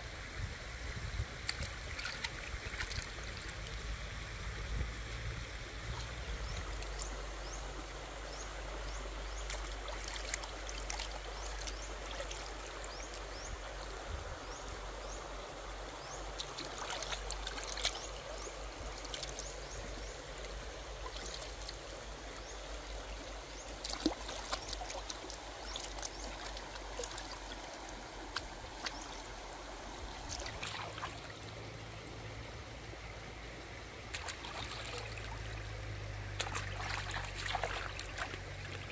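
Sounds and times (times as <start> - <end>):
rocky stream flowing: 0.0 - 38.9.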